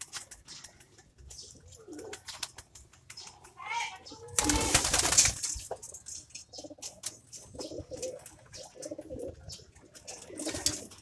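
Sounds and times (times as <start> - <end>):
pigeons cooing: 0.0 - 2.4, 3.3 - 11.0.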